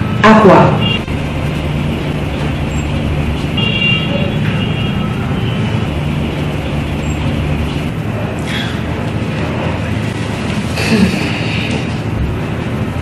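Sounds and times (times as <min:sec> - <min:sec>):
low hum: 0:00.0 - 0:13.0
road traffic noise: 0:00.0 - 0:13.0.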